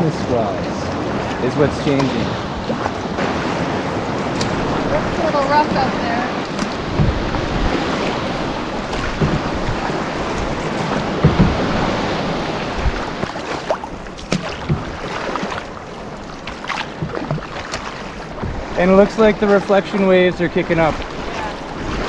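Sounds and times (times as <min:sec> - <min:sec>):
choppy lake water rushing: 0:00.0 - 0:22.0
wind: 0:00.0 - 0:22.0
short splashes or knocks: 0:01.2 - 0:22.0.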